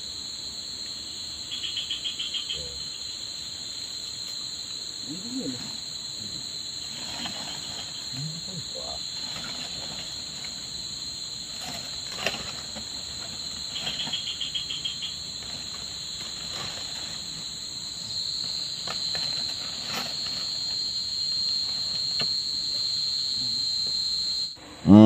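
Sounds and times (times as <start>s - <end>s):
insects droning: 0.0s - 25.0s
rapid insect trill: 0.0s - 25.0s.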